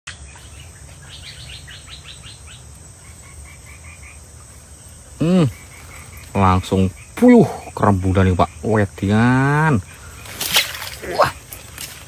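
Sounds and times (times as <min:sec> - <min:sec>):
insects trilling: 0:00.1 - 0:12.0.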